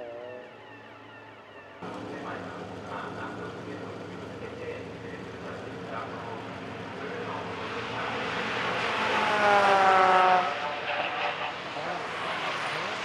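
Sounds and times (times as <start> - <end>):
race car engine passing by: 1.8 - 13.0.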